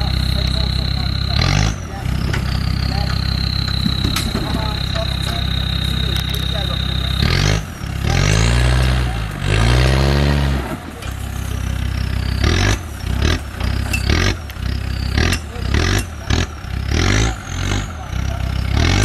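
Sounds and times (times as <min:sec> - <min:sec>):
diesel engine revving under load: 0:00.0 - 0:19.0.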